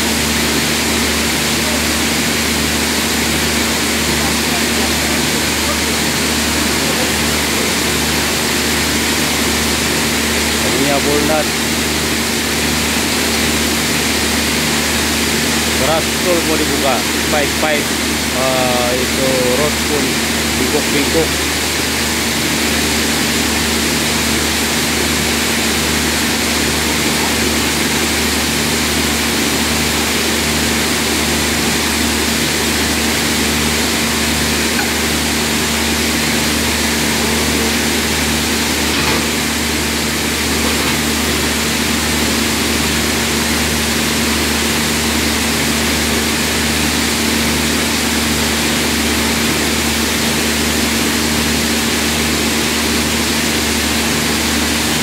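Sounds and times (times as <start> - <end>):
heavy machinery drone: 0.0 - 55.0.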